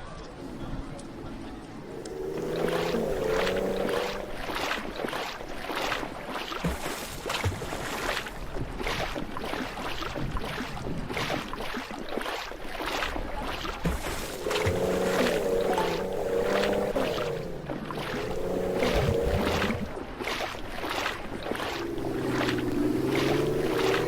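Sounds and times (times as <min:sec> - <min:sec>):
floodwater sloshing and splashing: 0:00.0 - 0:24.0.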